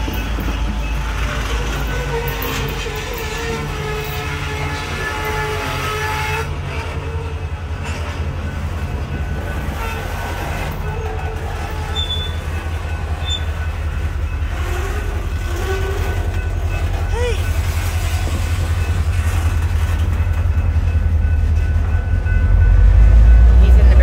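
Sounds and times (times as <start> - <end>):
freight train wheels clattering: 0.0 - 24.0.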